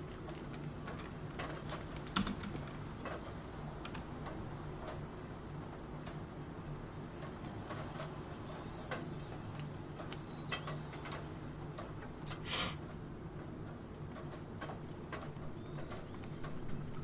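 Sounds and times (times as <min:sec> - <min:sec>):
rain: 0:00.0 - 0:17.0.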